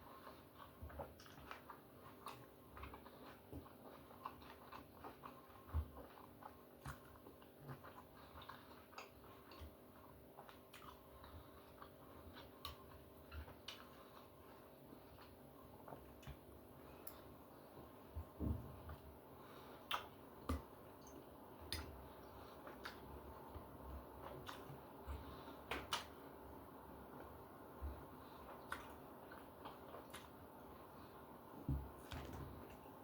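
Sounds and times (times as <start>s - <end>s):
person chewing: 0.0s - 17.5s, 18.2s - 26.2s, 27.2s - 31.1s.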